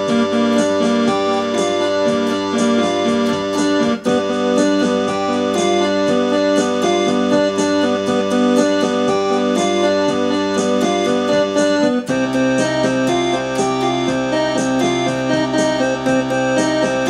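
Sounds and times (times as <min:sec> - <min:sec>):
electronic keyboard piano sound: 0:00.0 - 0:17.0.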